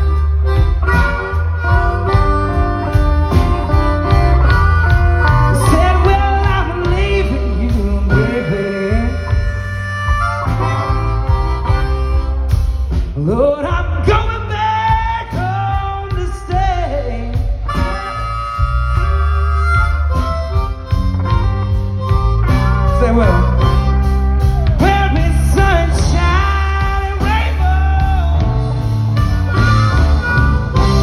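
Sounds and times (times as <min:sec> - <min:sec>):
blues harmonica solo: 0:00.0 - 0:31.0
electric blues band: 0:00.0 - 0:31.0.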